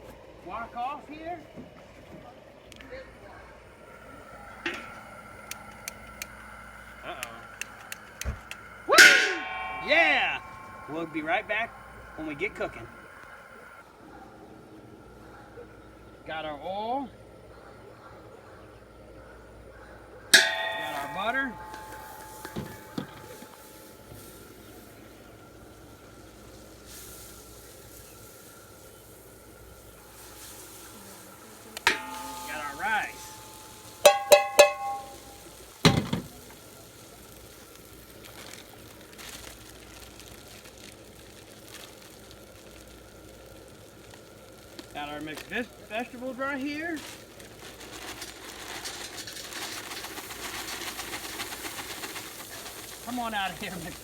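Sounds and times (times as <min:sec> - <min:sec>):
butter and oil sizzling in wok: 0:03.8 - 0:13.8, 0:20.4 - 0:54.0.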